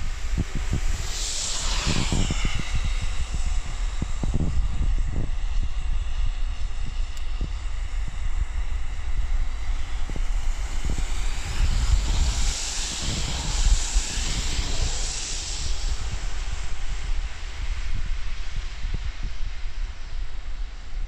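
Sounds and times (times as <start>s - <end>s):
steady low traffic rumble: 0.0s - 21.0s
tyres hissing on wet road: 0.0s - 21.0s.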